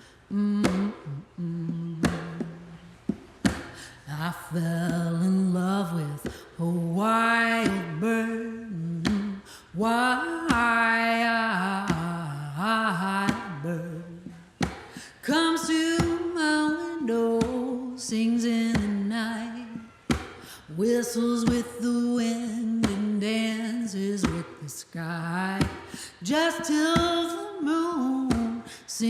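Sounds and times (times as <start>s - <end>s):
woman singing slow melody: 0.0s - 3.0s, 3.8s - 29.0s.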